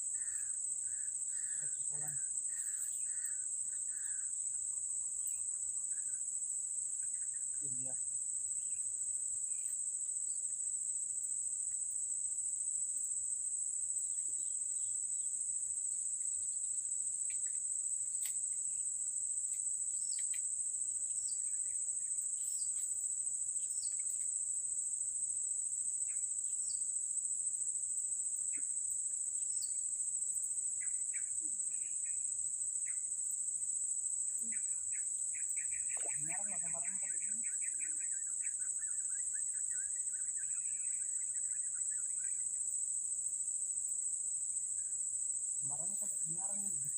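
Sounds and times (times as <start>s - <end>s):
insects droning high buzz: 0.0s - 46.9s.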